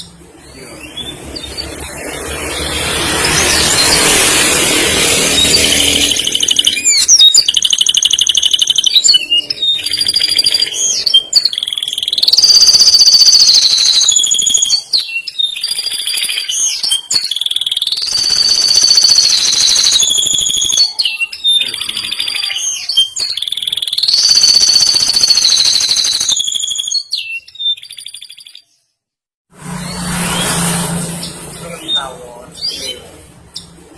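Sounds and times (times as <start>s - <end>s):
canary singing trills: 0.0s - 28.9s, 30.4s - 33.8s.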